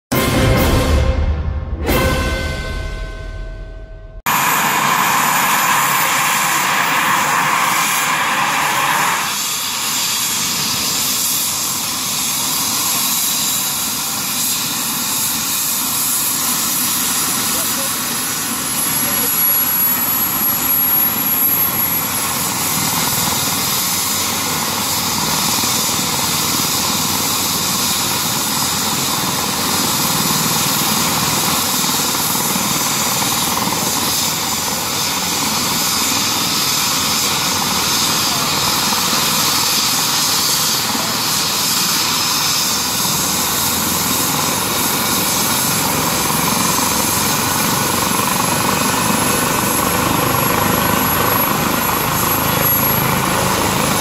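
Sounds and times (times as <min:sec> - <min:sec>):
helicopter turbines and rotors roaring: 0:00.1 - 0:54.0.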